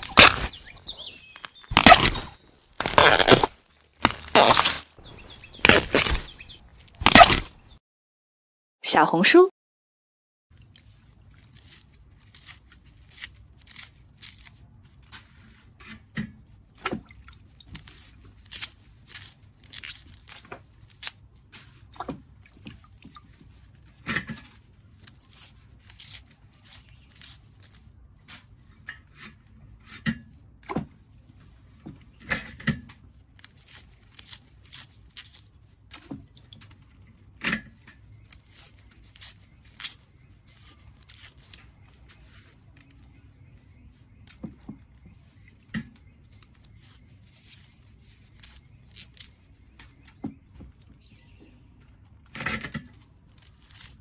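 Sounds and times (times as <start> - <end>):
produce snapping and crunching: 0.0 - 7.8, 11.3 - 15.8, 17.0 - 29.2, 30.6 - 54.0.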